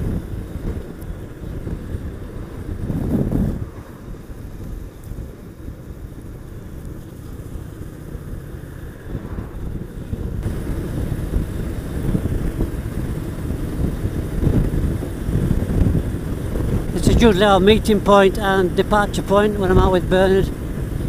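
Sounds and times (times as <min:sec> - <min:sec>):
motorcycle engine rumble: 0:00.0 - 0:21.0
wind buffeting microphone: 0:00.0 - 0:21.0.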